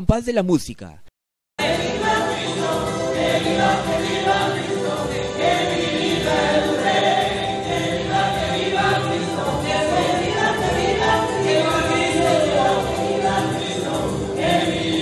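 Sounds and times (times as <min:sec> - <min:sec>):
crowd singing a hymn: 0:01.6 - 0:15.0.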